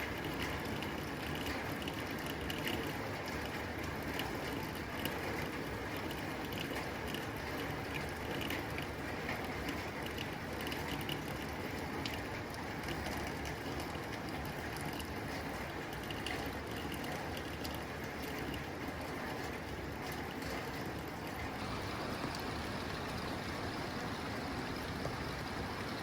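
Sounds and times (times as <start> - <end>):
rain on a tin roof: 0.0 - 26.0.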